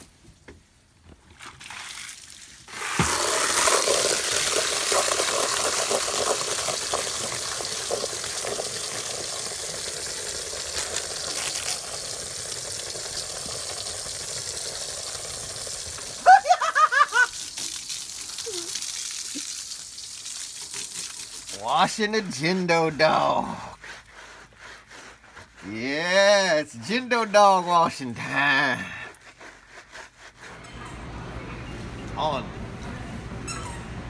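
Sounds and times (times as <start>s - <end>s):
hose water splashing into bucket: 1.3s - 29.3s.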